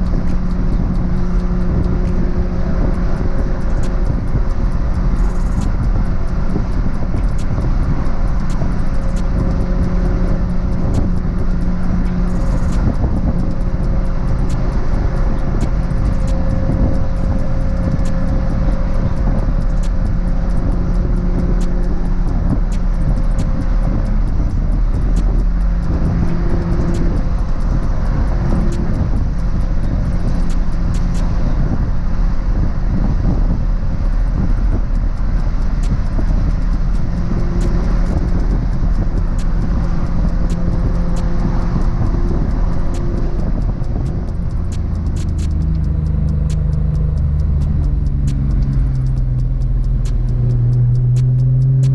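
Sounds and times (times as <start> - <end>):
car engine running: 0.0 - 51.9
road and tyre noise: 0.0 - 51.9.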